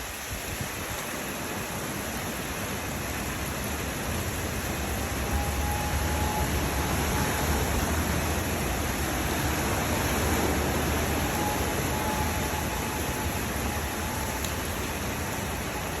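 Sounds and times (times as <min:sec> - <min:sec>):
rushing floodwater: 0:00.0 - 0:16.0.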